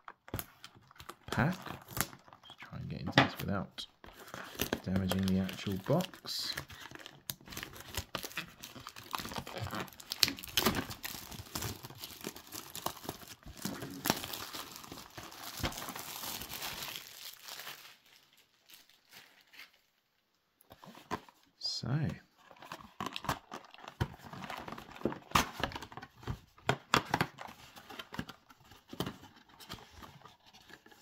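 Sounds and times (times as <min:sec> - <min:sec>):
wrapping tearing and crinkling: 0:00.0 - 0:02.8, 0:04.0 - 0:20.1, 0:22.4 - 0:31.0.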